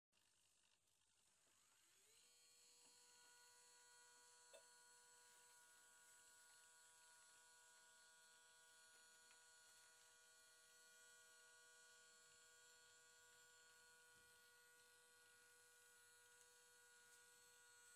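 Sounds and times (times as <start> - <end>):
turntable motor whine: 1.5 - 17.9.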